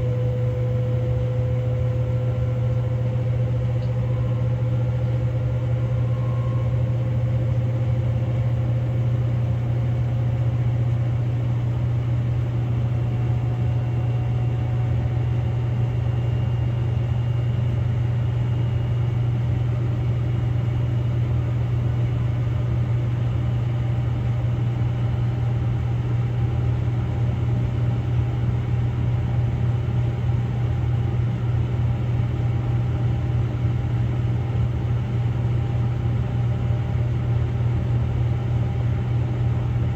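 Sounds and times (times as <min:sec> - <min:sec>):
faint motor whine: 0:00.0 - 0:39.9.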